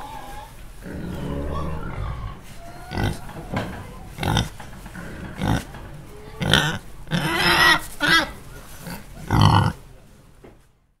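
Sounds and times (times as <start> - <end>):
pigs grunting: 0.0 - 9.9.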